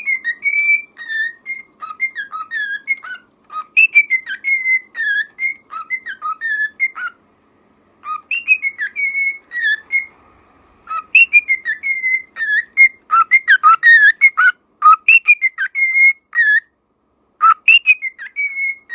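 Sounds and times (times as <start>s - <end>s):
parrot whistling a tune: 0.0s - 7.2s, 8.0s - 10.2s, 10.8s - 16.8s, 17.4s - 18.9s.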